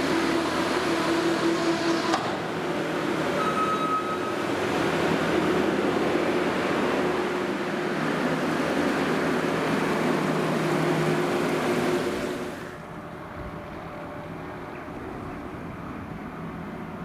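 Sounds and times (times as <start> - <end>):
loader engine humming: 0.0 - 17.0.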